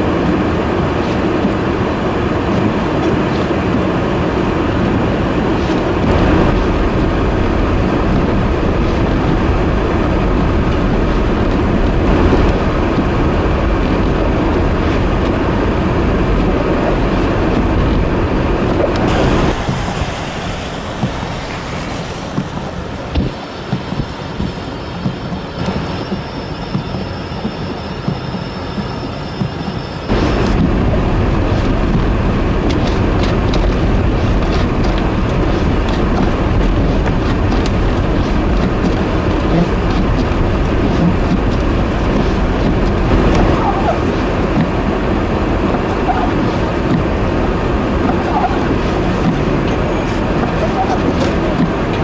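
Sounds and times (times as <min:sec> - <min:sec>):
vehicle noise: 0:00.0 - 0:52.0
wind rushing over microphone: 0:00.0 - 0:52.0.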